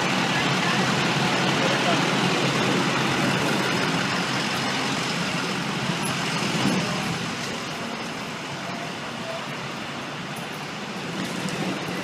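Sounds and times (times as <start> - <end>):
city street traffic: 0.0 - 12.0
trucks idling: 0.0 - 12.0.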